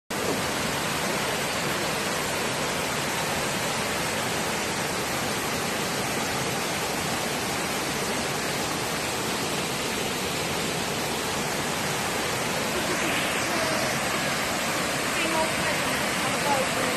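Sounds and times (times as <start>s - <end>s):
waterfall rushing: 0.1s - 16.9s.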